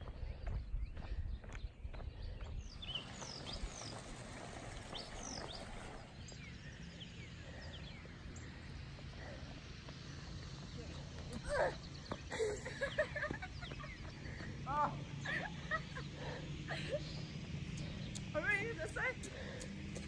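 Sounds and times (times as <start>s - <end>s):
birds chirping: 0.0s - 20.0s
low outdoor rumble: 0.0s - 20.0s.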